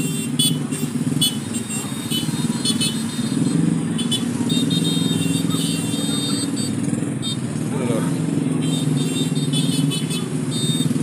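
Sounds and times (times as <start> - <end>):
road traffic: 0.0 - 11.0
small motorcycle engines: 0.0 - 11.0.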